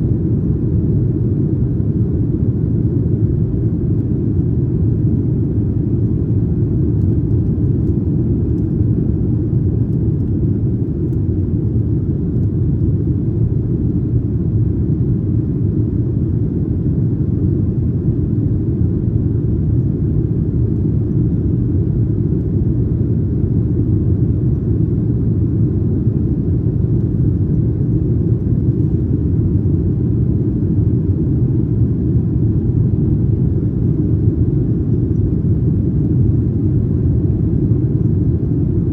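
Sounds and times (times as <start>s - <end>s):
aircraft engines rumbling: 0.4s - 38.9s
airflow over fuselage: 5.8s - 38.9s.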